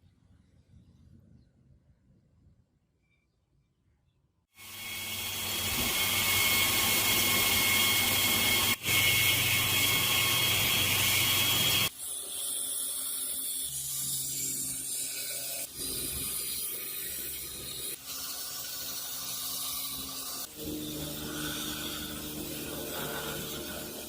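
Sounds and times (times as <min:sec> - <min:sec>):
power tool high whine: 0:04.6 - 0:24.0.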